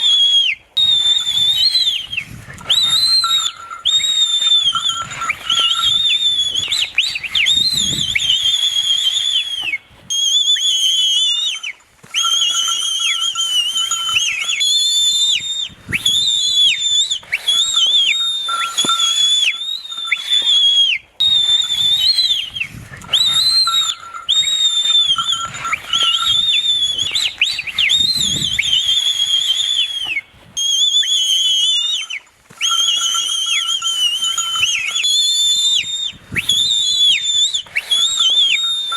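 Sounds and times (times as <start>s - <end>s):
shrill whistling: 0.0s - 38.9s.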